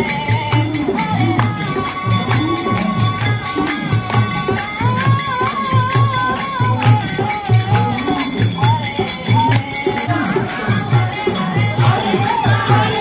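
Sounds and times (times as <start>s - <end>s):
jingling hand percussion: 0.0s - 13.0s
person singing: 0.0s - 13.0s.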